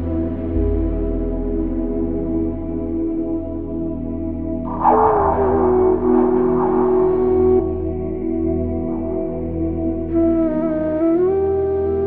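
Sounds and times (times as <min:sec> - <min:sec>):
deep bass note: 0:00.0 - 0:10.4
ambient drone music: 0:00.0 - 0:12.0.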